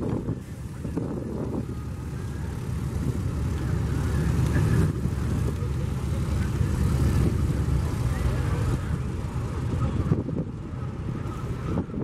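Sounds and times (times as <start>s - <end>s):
radial aircraft engines rumbling: 0.0s - 12.0s.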